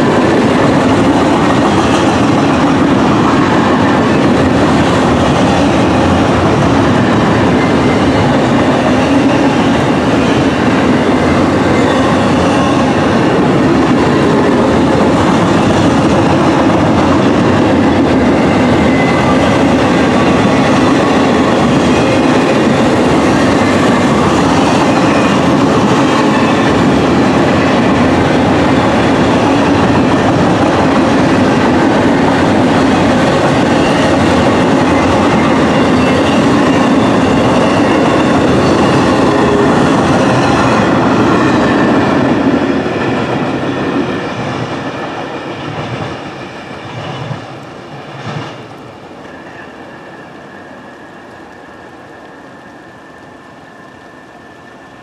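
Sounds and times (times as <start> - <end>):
freight train rumbling past: 0.0 - 55.0
train clanks: 0.0 - 55.0.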